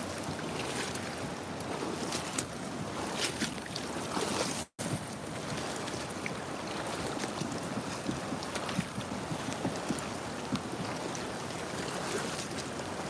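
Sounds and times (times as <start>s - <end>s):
rushing river floodwater: 0.0s - 13.0s
wind on microphone: 0.0s - 13.0s.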